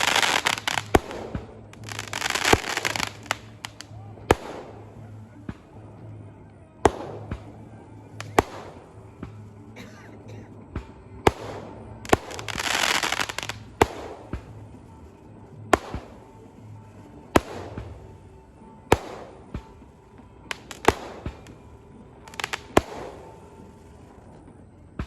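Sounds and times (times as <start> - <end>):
fireworks banging and crackling: 0.0 - 25.0.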